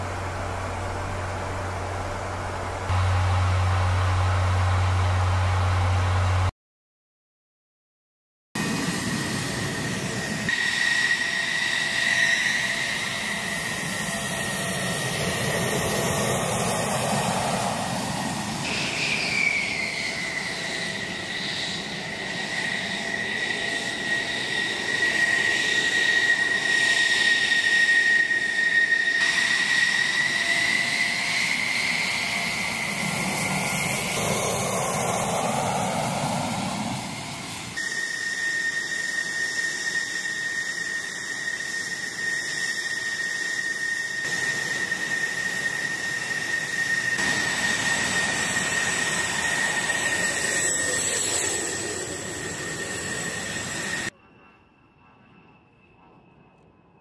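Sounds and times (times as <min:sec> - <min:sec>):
jet engines idling: 0:00.0 - 0:06.5, 0:08.6 - 0:57.0
turbine whine: 0:00.0 - 0:06.5, 0:08.6 - 0:57.0.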